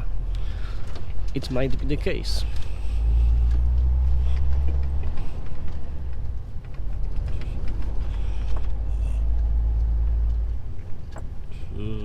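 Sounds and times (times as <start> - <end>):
diesel truck engine from inside cab: 0.0 - 12.0.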